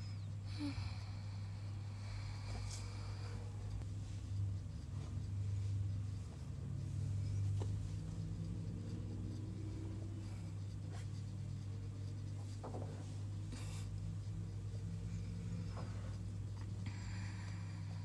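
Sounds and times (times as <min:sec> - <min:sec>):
steady low hum: 0:00.0 - 0:18.0
fingertips brushing and scratching: 0:02.4 - 0:18.0.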